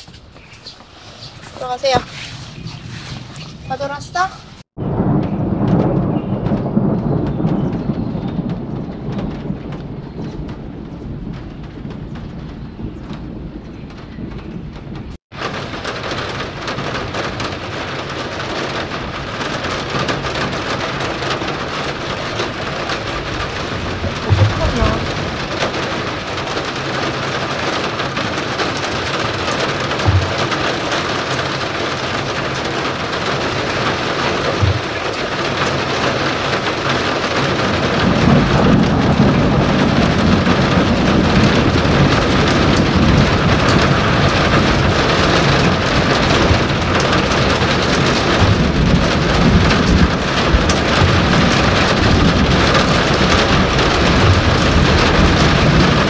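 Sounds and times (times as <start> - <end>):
rolling thunder rumble: 0.0 - 56.0.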